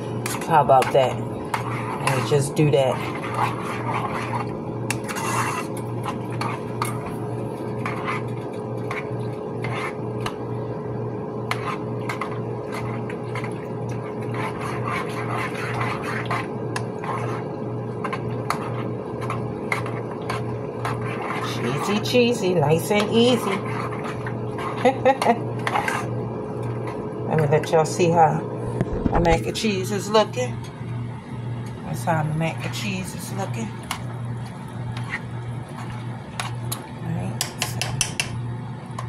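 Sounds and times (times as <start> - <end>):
low hum with faint throb: 0.0 - 39.0.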